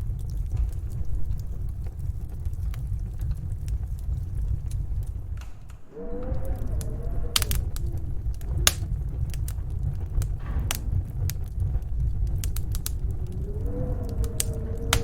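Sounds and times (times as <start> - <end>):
snowstorm wind rumbling: 0.0 - 15.0
wood fire crackling and popping: 0.0 - 15.0.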